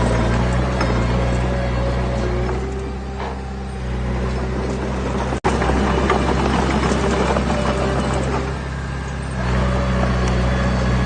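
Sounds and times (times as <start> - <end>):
heavy machinery diesel engine running: 0.0 - 11.0.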